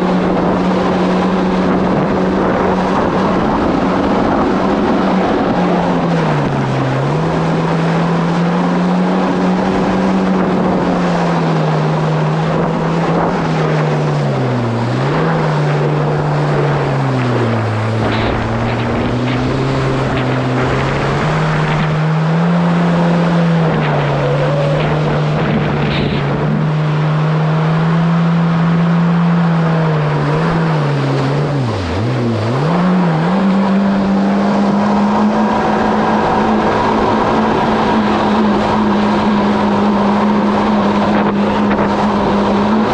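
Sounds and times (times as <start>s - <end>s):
jet ski engine running: 0.0s - 42.9s
water rushing along hull: 0.0s - 42.9s.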